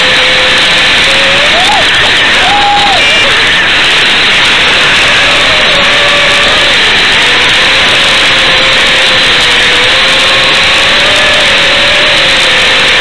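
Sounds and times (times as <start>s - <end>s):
loud steady hiss: 0.0s - 13.0s
quadcopter motors whining: 0.0s - 13.0s.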